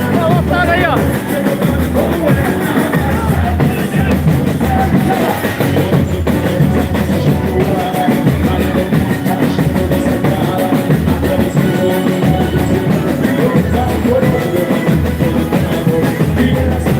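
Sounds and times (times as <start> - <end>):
deep bass drum beat: 0.0 - 16.9
live band music: 0.0 - 16.9.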